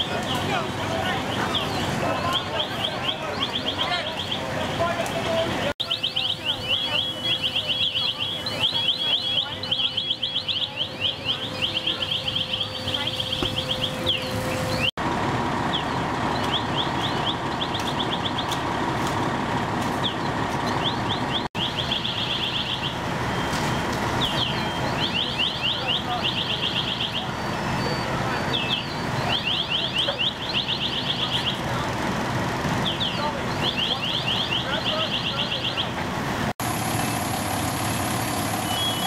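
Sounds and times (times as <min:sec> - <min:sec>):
engine drone: 0:00.0 - 0:39.0.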